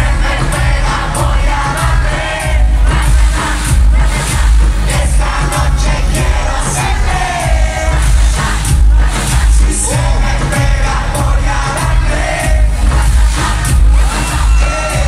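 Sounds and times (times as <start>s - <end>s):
crowd noise: 0.0s - 15.0s
live reggaeton music: 0.0s - 15.0s.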